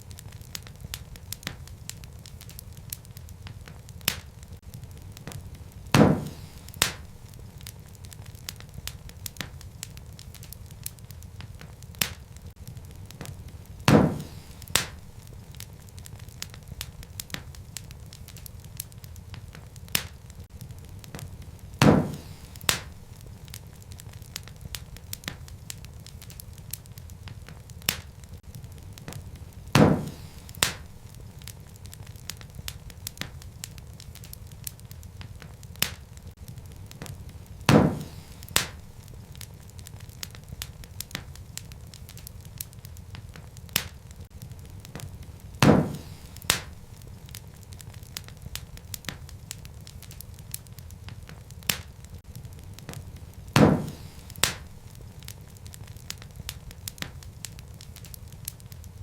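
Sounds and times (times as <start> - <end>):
loud fire pops: 0.0 - 59.0
wood fire crackling: 0.0 - 59.0.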